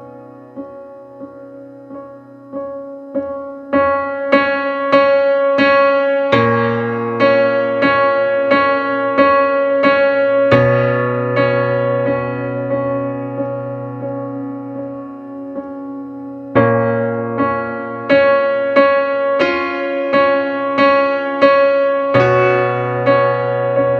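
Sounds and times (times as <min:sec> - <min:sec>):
electric piano chords: 0:00.0 - 0:23.9.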